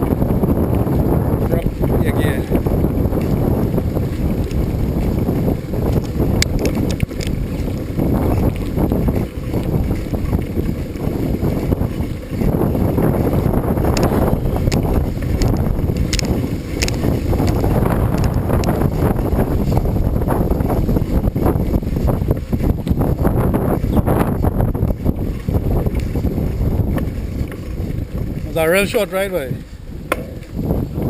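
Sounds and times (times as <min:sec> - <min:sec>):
bicycle clicks and rattles: 0:00.0 - 0:31.0
wind buffeting microphone: 0:00.0 - 0:31.0.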